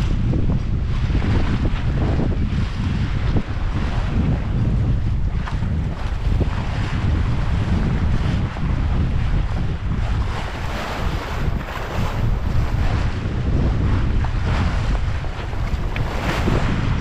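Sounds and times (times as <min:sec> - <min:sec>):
water splashing along a hull: 0:00.0 - 0:17.0
wind rumbling on microphone: 0:00.0 - 0:17.0.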